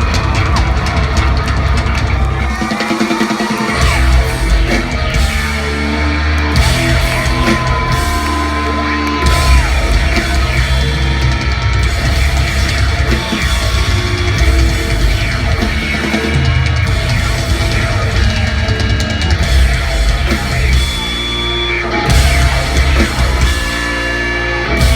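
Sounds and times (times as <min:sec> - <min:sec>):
rock band playing live: 0:00.0 - 0:24.9.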